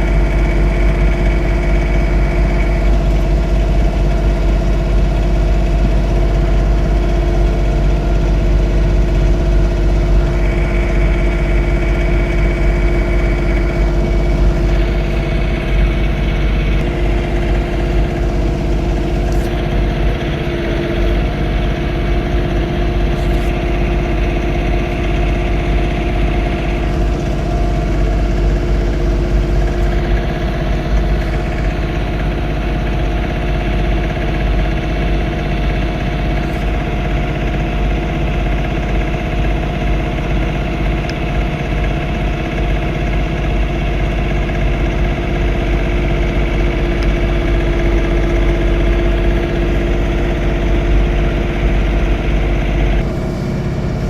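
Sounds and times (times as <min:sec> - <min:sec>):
high whine: 0:00.0 - 0:54.0
tractor diesel engine droning: 0:00.0 - 0:54.0.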